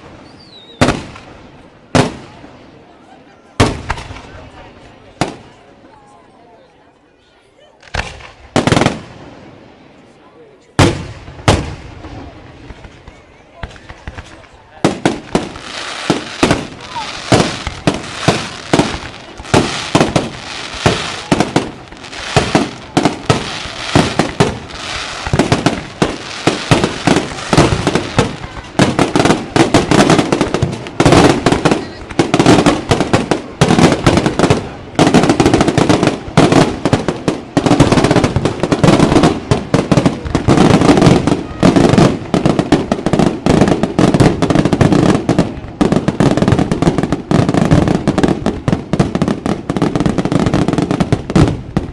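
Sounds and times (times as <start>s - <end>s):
fireworks bangs and bursts: 0.0s - 5.7s, 7.8s - 9.9s, 10.8s - 51.9s.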